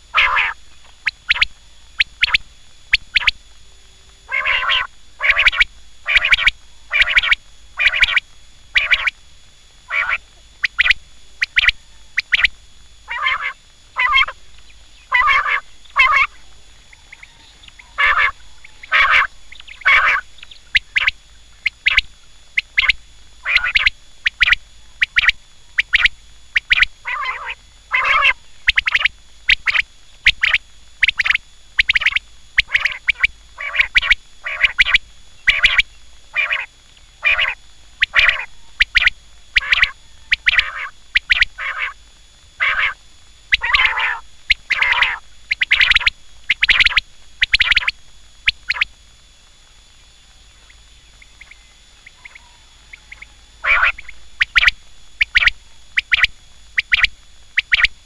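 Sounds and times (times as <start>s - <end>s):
quail calling: 0.0s - 3.4s, 4.3s - 9.2s, 9.9s - 42.0s, 42.6s - 48.9s, 50.6s - 58.0s.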